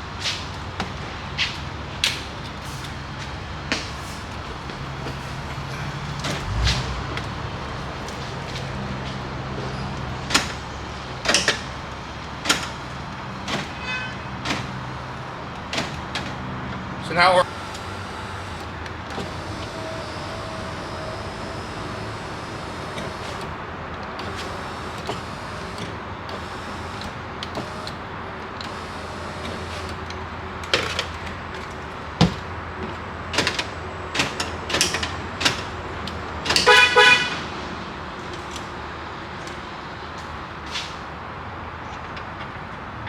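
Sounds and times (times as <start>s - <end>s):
sharp clicks and knocks on truck: 0.2s - 37.4s.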